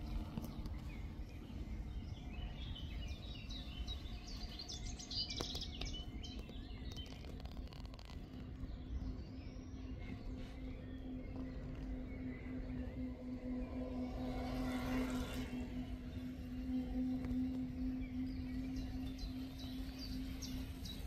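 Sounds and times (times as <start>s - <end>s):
bird singing: 0.0s - 21.0s
low outdoor rumble: 0.0s - 21.0s.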